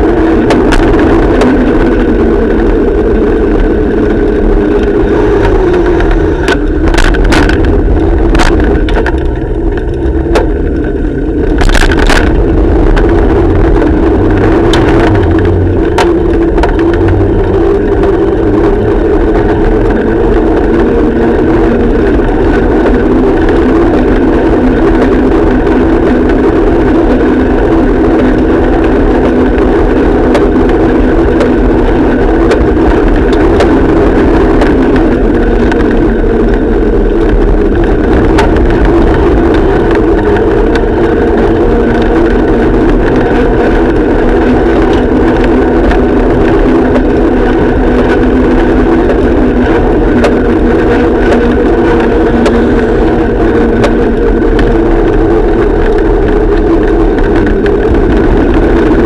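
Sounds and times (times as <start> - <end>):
road and wind noise: 0.0 - 59.0
small engine running: 0.0 - 59.0.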